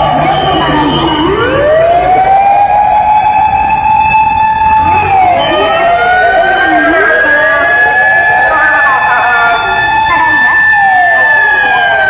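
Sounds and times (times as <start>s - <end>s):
motor siren wailing: 0.0s - 12.0s
second siren sweeping up and down: 0.0s - 12.0s.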